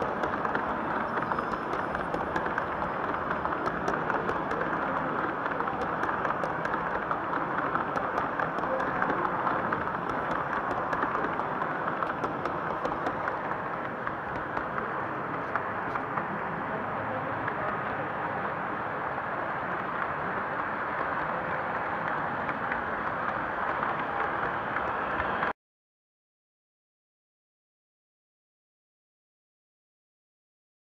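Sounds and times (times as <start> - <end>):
model train wheels clicking: 0.0 - 25.5
murmur of crowd in hall: 0.0 - 25.5.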